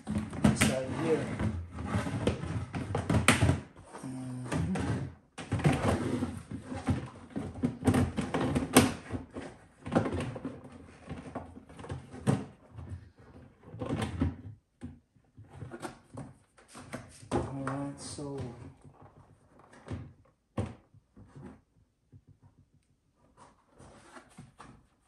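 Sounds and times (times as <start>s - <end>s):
plastic parts knocking and scraping: 0.0s - 25.0s.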